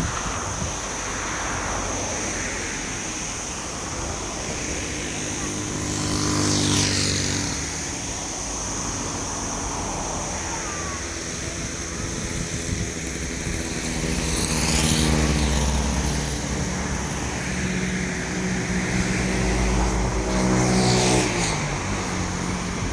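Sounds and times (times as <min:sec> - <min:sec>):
traffic engine drone: 0:00.0 - 0:22.9
vehicles rushing past: 0:00.0 - 0:22.9.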